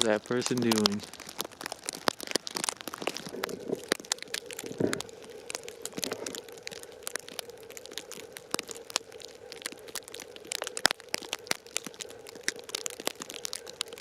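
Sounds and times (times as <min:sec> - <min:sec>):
crackling and crunching: 0:00.0 - 0:14.0
faint steady hum: 0:00.0 - 0:14.0.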